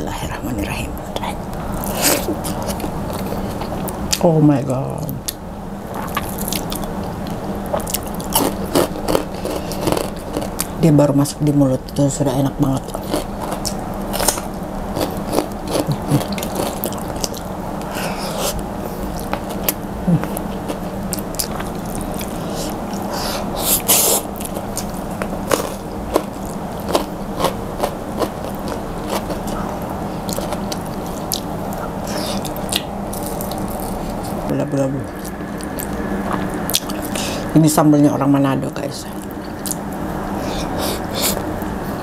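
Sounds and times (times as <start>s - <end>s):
steady low hum: 0.0s - 42.0s
person chewing crunchy food: 1.7s - 4.1s, 5.2s - 10.8s, 12.7s - 34.5s, 35.1s - 37.5s, 39.1s - 42.0s.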